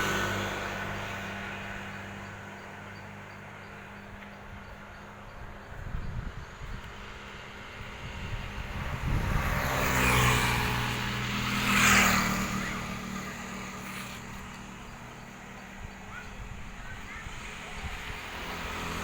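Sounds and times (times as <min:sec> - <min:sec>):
vehicles passing close by: 0:00.0 - 0:19.0.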